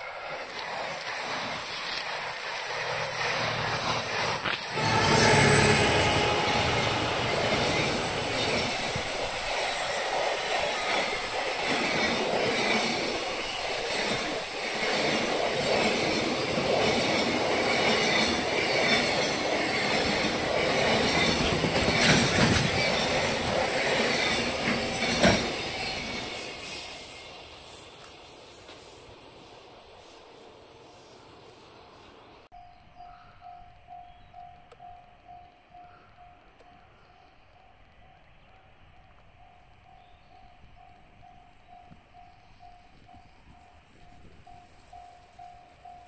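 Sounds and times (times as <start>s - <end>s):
freight train wheels on rail: 0.0s - 46.0s
passenger train passing: 0.0s - 46.0s.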